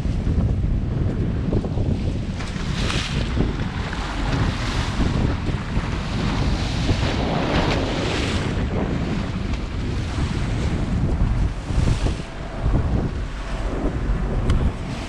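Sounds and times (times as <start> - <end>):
water rushing along boat hull: 0.0 - 15.0
wind buffeting microphone: 0.0 - 15.0.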